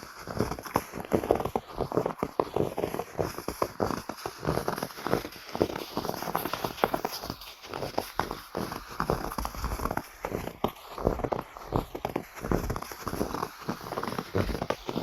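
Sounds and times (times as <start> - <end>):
footsteps crunching through snow: 0.0 - 15.0.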